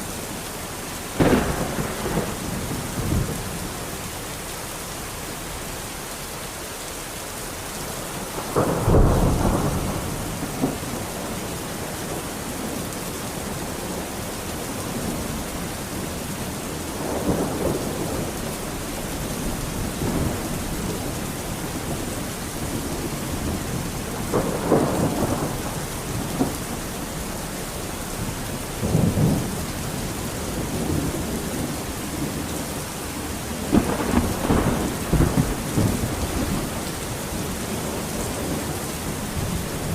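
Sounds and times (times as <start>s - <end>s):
heavy rain: 0.0s - 39.9s
thunder rumbling: 1.1s - 4.0s, 8.1s - 39.9s.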